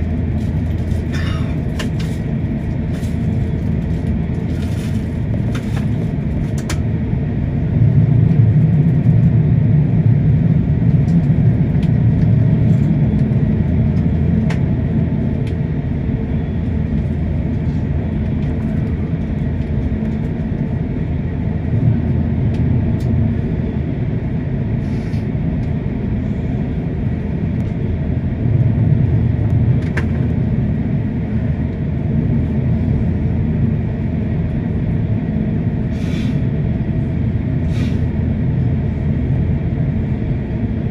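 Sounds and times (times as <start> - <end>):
airliner taxiing rumble: 0.0 - 40.9.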